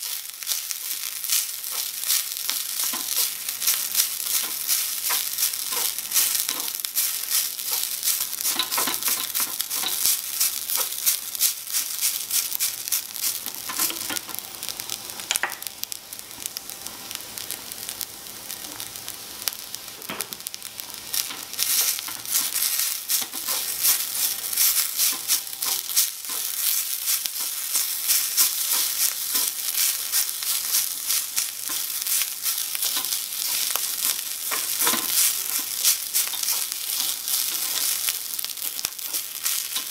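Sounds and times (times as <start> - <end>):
rice sizzling in wok: 0.0 - 39.9.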